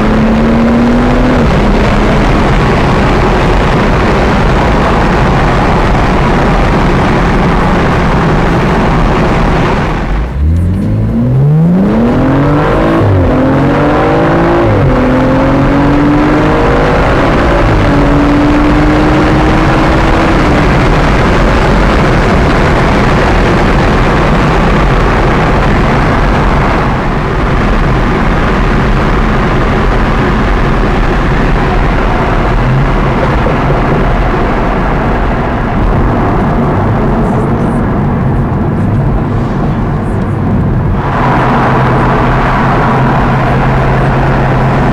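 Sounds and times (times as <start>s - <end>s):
car engine accelerating: 0.0s - 44.9s
loud steady rushing noise: 0.0s - 44.9s.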